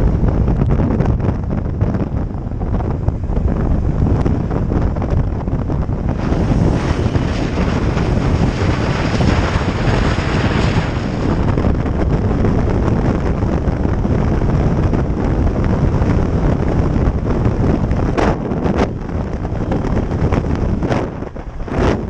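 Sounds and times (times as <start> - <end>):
motorcycle engine rumble: 0.0 - 22.0
road noise: 0.0 - 22.0
wind rushing over microphone: 0.0 - 22.0.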